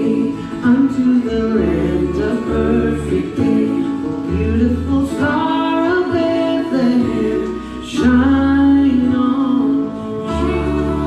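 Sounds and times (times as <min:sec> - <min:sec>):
instrumental accompaniment: 0:00.0 - 0:11.0
woman singing: 0:00.0 - 0:11.0.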